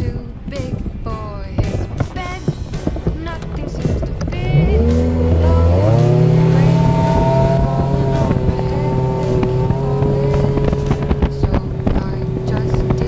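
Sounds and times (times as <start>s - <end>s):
wind buffeting microphone: 0.0s - 13.0s
outboard motor throttling up: 1.7s - 13.0s.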